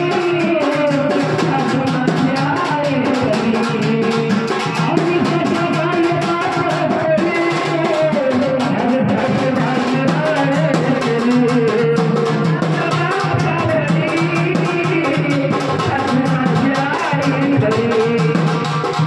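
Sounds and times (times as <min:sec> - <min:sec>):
rhythmic drum beat: 0:00.0 - 0:19.0.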